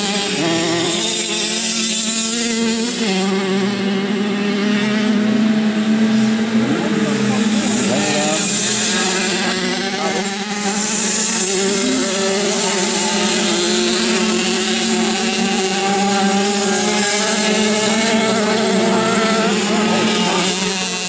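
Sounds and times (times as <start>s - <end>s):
motorcycle engines buzzing at high revs: 0.0s - 21.0s.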